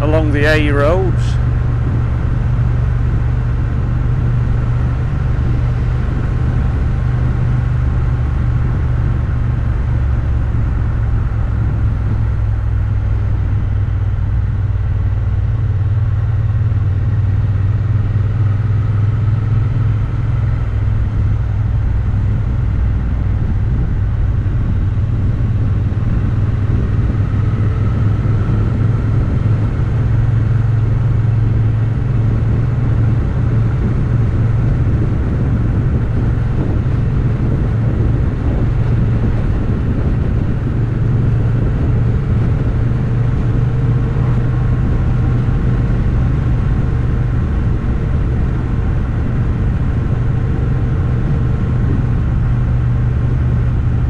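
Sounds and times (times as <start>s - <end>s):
low road rumble: 0.0s - 54.0s
motorcycle engine running: 0.0s - 54.0s.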